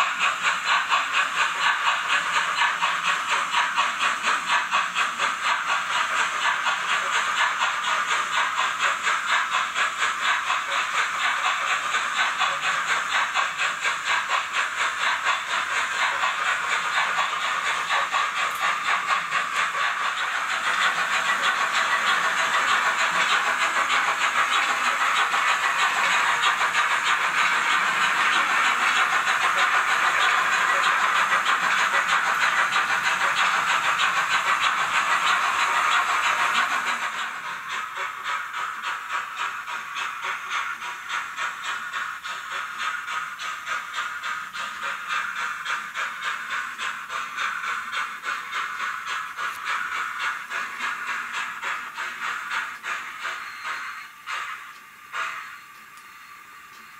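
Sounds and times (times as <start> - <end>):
model train steam chuffs from speaker: 0.0 - 56.9.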